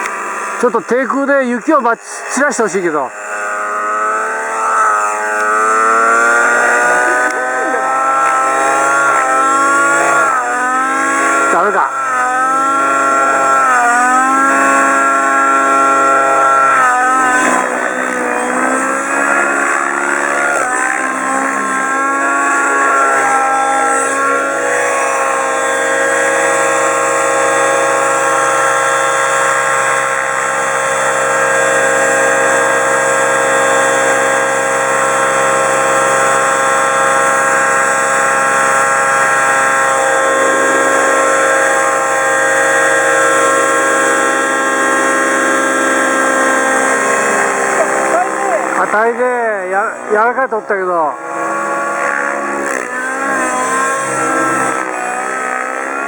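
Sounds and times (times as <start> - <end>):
model helicopter engine whine: 0.0 - 56.0.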